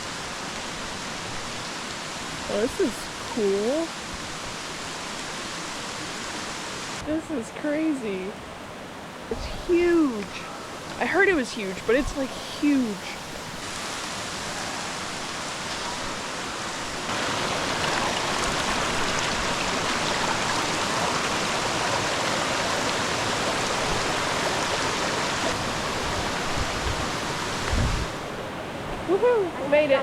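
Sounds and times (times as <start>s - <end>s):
rushing water of falls and stream: 0.0s - 30.0s.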